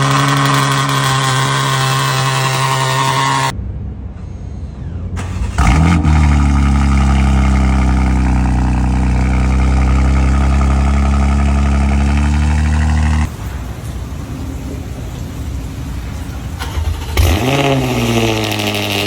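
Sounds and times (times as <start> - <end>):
car starter cranking: 0.0 - 3.5, 5.2 - 14.0, 16.0 - 19.0
car engine revving and idling: 0.0 - 19.0
quieter engine sound: 0.0 - 19.0.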